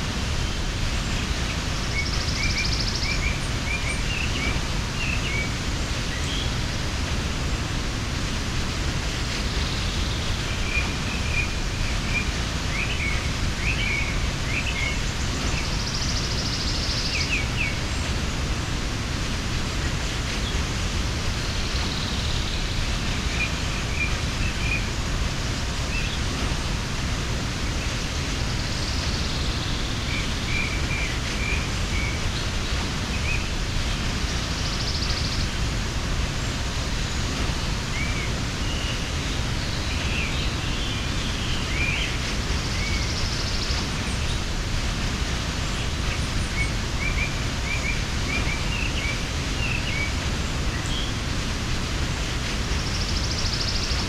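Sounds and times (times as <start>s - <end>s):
waterfall rushing: 0.0s - 54.0s
small birds chirping: 9.1s - 54.0s.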